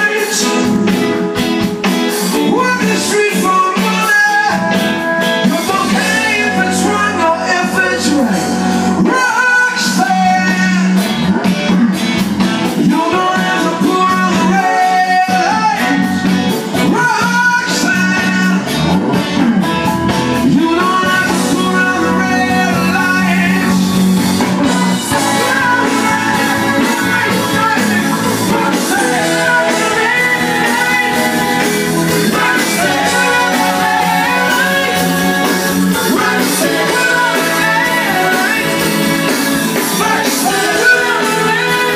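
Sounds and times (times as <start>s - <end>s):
loud rock music with singing: 0.0s - 41.9s.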